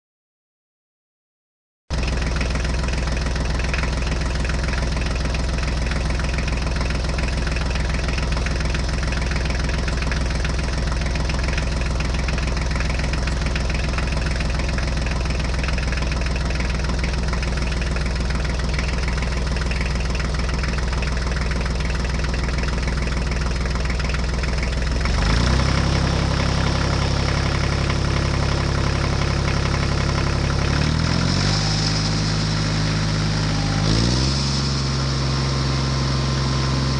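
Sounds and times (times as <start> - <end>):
tractor engine running: 1.9 - 36.9.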